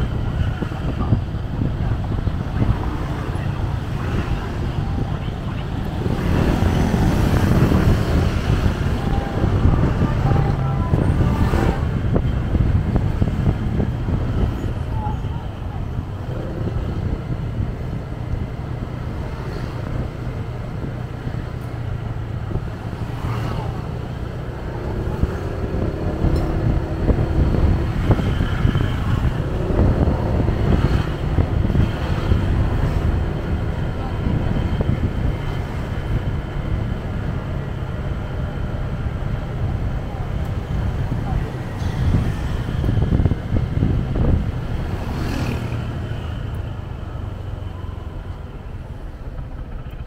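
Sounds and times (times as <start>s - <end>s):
traffic: 0.0s - 50.0s
wind buffeting microphone: 0.0s - 50.0s.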